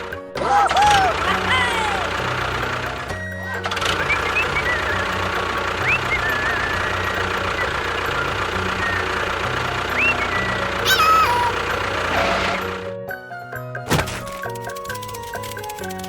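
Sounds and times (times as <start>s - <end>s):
steady engine-like running: 0.0s - 16.0s.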